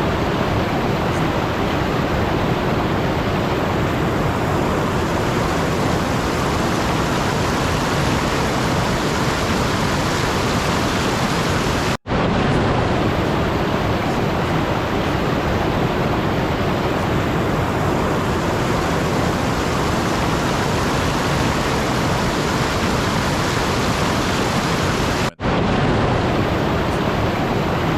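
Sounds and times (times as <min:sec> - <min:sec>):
steady rushing noise: 0:00.0 - 0:27.9.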